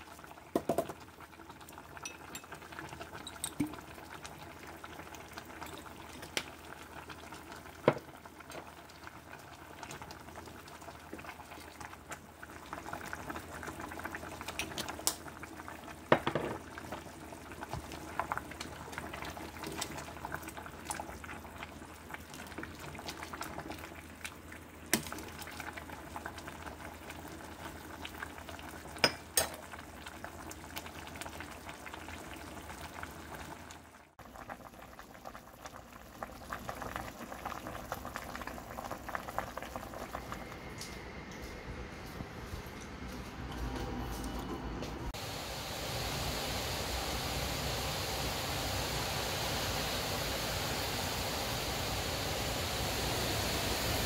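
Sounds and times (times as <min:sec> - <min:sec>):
pot boiling and bubbling: 0:00.0 - 0:54.0.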